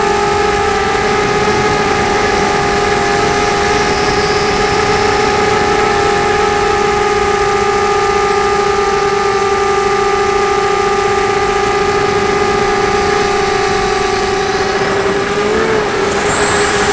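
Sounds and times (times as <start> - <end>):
drone motors whining: 0.0 - 16.9.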